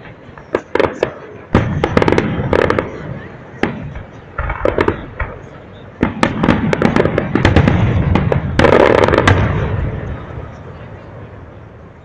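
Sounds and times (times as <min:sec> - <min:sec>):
crackling fireworks reports: 0:00.0 - 0:12.0
fireworks bursting: 0:00.0 - 0:12.0.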